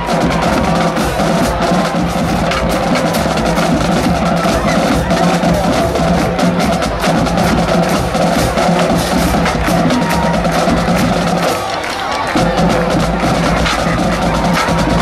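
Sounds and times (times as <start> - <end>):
marching drumline playing: 0.0 - 15.0.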